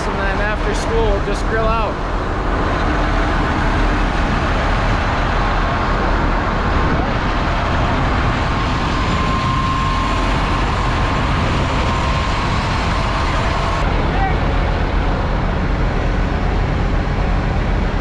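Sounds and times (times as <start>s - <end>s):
tractor engines idling: 0.0s - 18.0s.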